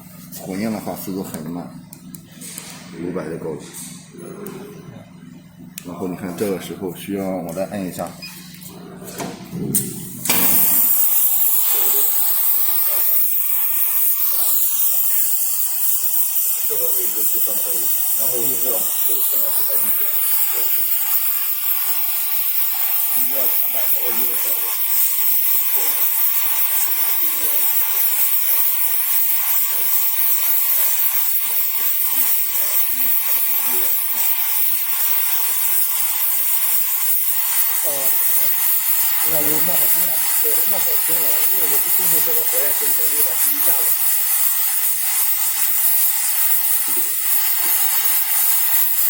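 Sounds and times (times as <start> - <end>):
cutting torch gas hiss: 5.7 - 49.0.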